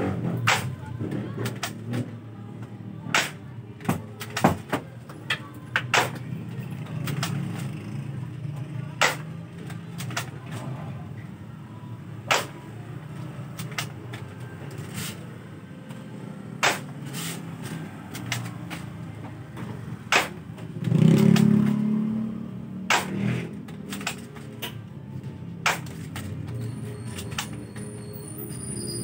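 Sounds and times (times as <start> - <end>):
engine hum: 0.0 - 29.0.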